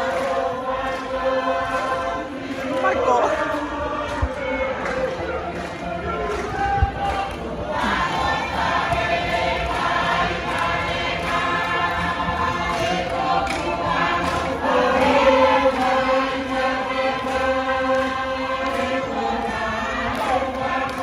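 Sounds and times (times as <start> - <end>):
group singing chant-like song: 0.0 - 21.0.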